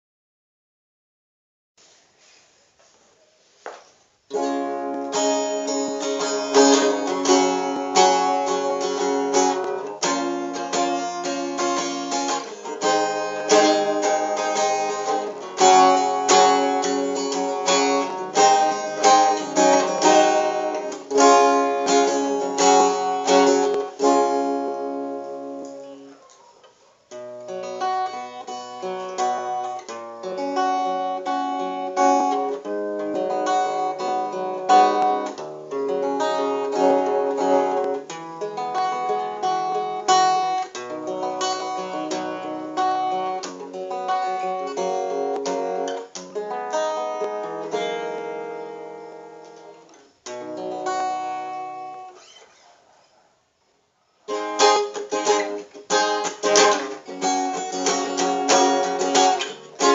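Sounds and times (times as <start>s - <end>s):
acoustic guitar plucked: 4.3s - 52.7s, 54.2s - 59.9s.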